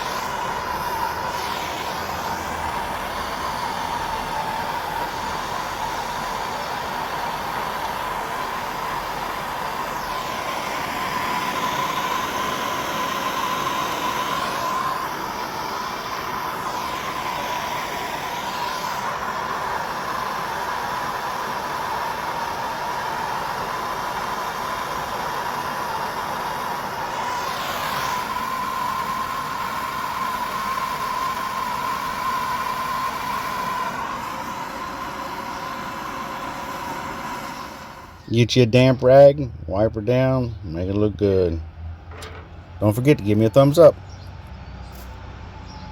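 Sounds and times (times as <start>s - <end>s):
gas torch flame hissing: 0.0s - 39.6s, 42.0s - 44.0s.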